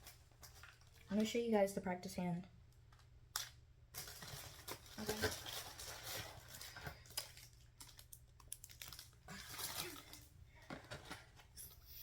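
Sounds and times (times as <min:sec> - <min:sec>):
packaging crinkling and rustling: 0:00.0 - 0:01.5, 0:02.9 - 0:11.7.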